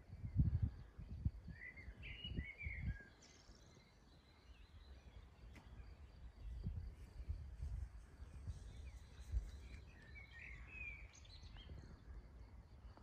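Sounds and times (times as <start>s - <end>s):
wind gusting against microphone: 0.0s - 3.2s, 5.8s - 13.0s
songbird chirping: 0.0s - 13.0s.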